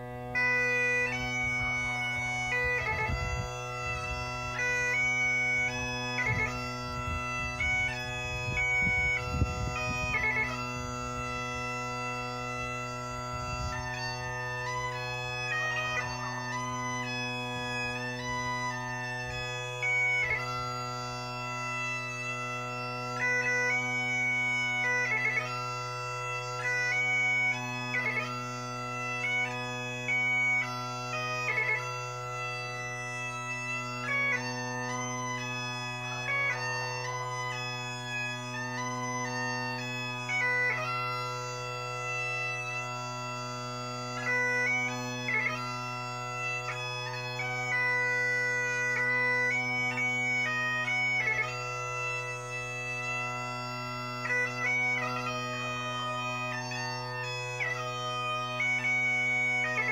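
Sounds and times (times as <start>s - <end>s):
bagpipe playing slow tune: 0.0s - 59.9s.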